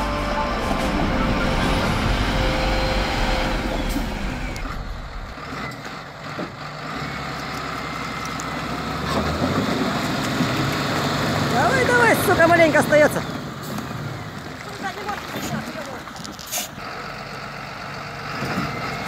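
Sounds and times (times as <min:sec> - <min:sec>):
truck diesel engine working hard: 0:00.0 - 0:19.0.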